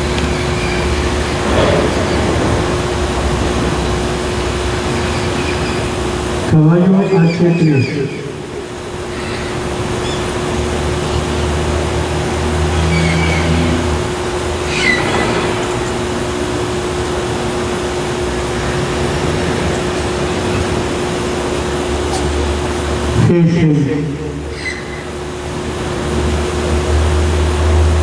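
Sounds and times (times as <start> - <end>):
faint hum: 0.0 - 28.0
outdoor rumble and hiss: 0.0 - 28.0.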